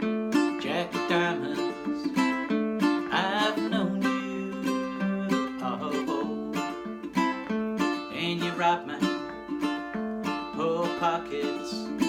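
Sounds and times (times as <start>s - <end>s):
man singing: 0.0s - 12.0s
ukulele strumming: 0.0s - 12.0s.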